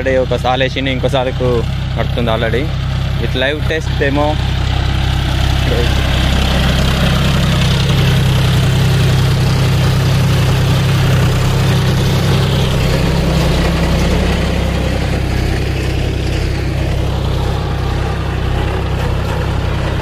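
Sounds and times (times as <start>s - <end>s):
diesel tractor engine under load: 0.0s - 20.0s.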